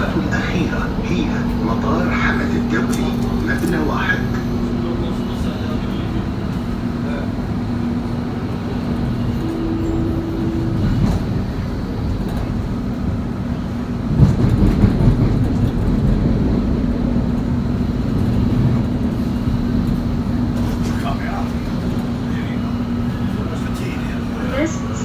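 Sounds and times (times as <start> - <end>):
train rumble and hum: 0.0 - 25.0.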